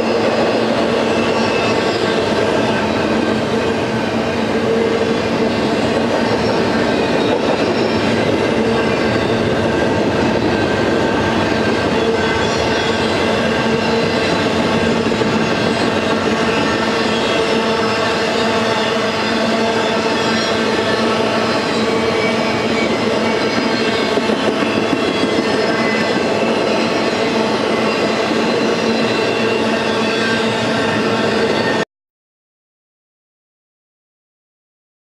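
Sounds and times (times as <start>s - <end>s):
rumble of train wheels: 0.0s - 31.8s.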